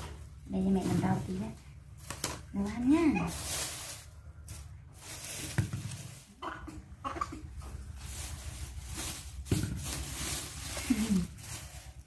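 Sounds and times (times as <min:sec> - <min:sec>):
plastic bag rustling: 0:00.0 - 0:06.4, 0:07.5 - 0:12.0.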